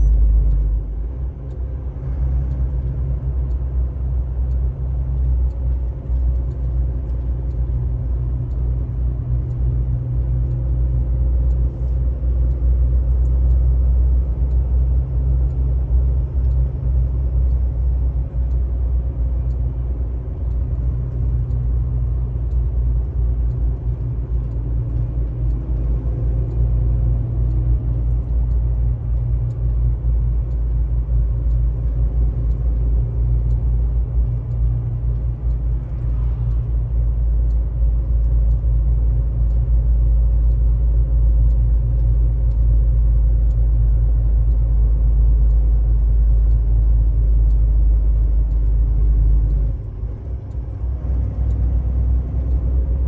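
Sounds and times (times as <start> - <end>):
road and engine rumble: 0.0 - 53.0.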